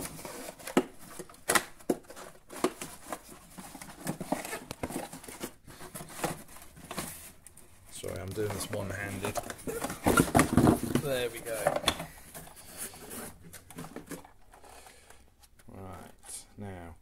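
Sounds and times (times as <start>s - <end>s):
cardboard scraping and rustling: 0.0s - 14.7s.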